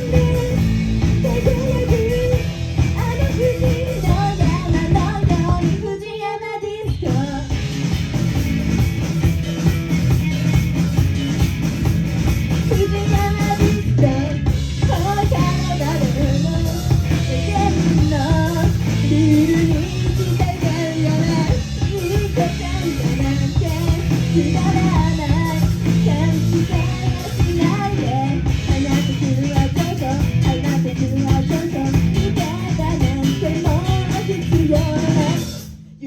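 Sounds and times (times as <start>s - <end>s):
drum kit playing: 0.0s - 5.9s, 7.0s - 36.0s
bass guitar: 0.0s - 6.0s, 6.9s - 36.0s
electric guitar: 0.0s - 6.1s, 6.8s - 36.0s
person singing: 0.0s - 7.6s, 12.7s - 35.6s.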